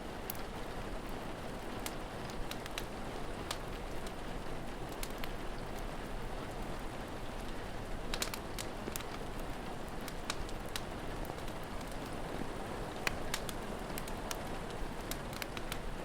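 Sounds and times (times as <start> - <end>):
steady rain: 0.0 - 16.0
wood fire crackling and popping: 0.0 - 16.0.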